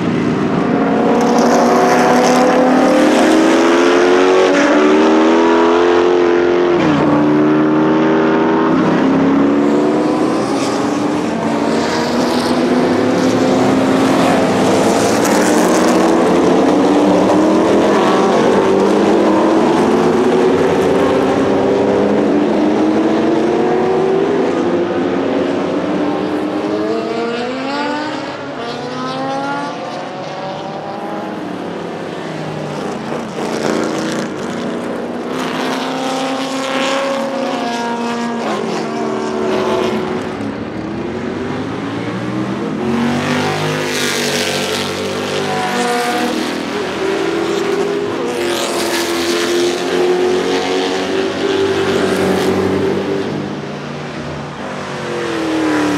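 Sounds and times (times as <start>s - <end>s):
racing car engine at full throttle: 0.0s - 55.9s.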